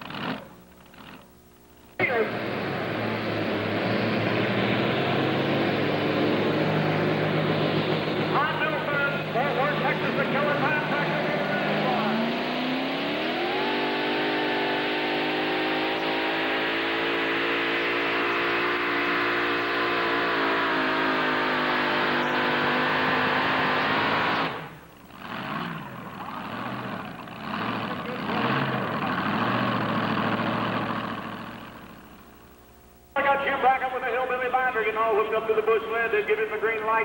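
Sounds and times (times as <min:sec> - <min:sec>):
tractor engine revving: 0:00.0 - 0:37.0.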